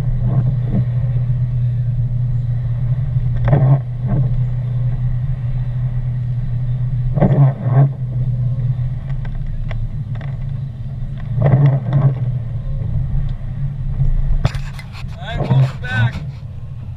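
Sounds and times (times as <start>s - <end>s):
car engine and tyre drone: 0.0s - 16.9s.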